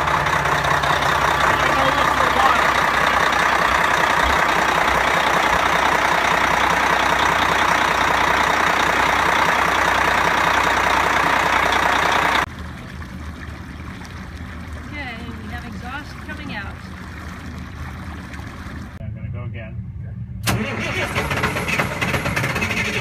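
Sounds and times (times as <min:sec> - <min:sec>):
water washing along hull: 0:00.0 - 0:19.0
diesel engine running: 0:00.0 - 0:23.0.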